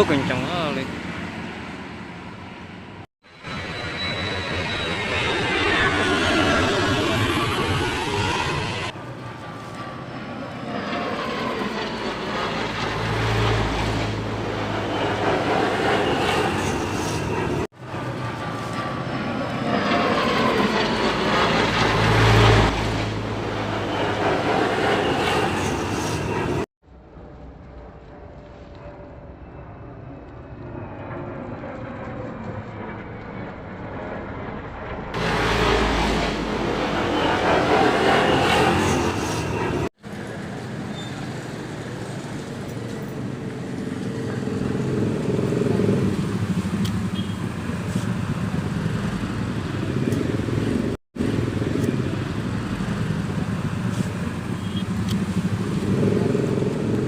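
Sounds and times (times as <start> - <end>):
fighter jet flying past: 0.0 - 57.0.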